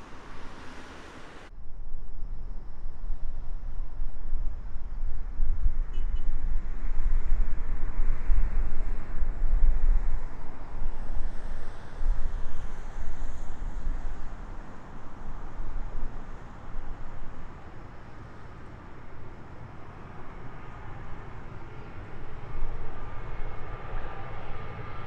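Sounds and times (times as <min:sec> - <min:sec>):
jet airliner engine noise: 0:00.0 - 0:25.0.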